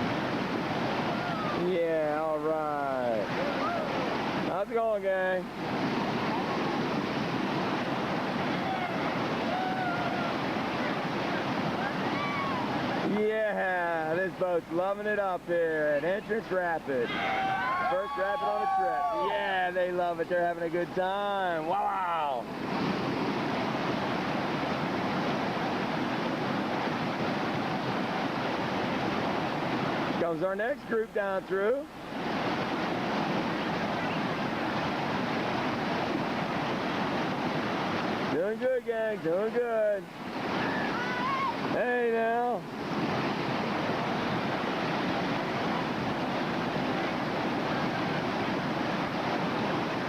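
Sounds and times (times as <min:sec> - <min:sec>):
river rapid rushing: 0:00.0 - 0:50.0.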